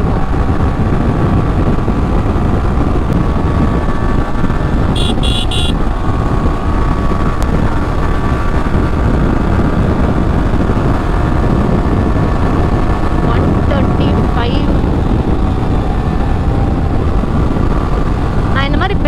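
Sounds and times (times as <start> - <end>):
motorcycle engine running: 0.0 - 19.0
wind rushing on microphone: 0.0 - 19.0.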